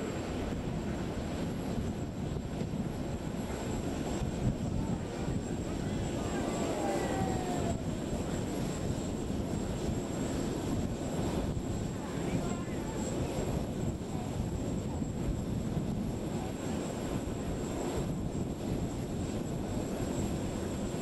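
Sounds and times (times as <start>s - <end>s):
jet aircraft rumble and hiss: 0.0s - 21.0s.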